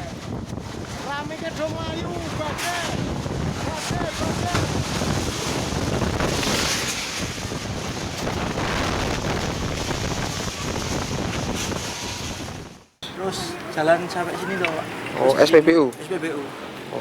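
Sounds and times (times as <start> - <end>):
strong wind buffeting microphone: 0.0 - 15.6.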